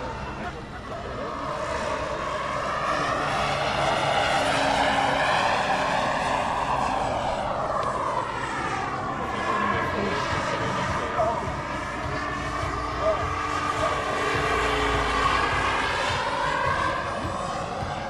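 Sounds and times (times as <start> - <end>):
model helicopter engine and rotor: 0.0 - 18.0.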